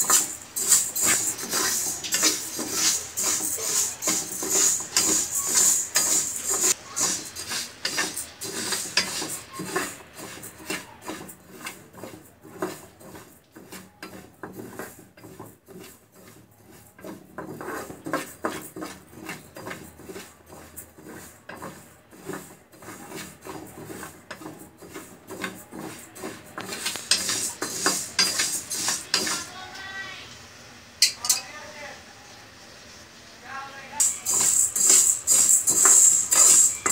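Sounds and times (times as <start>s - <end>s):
spatula scraping a pan: 0.0s - 30.0s, 34.0s - 36.9s.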